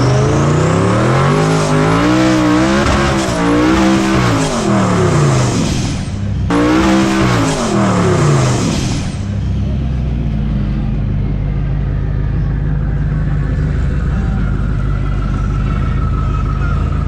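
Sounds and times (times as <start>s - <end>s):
drag racing car engines revving: 0.0s - 17.0s.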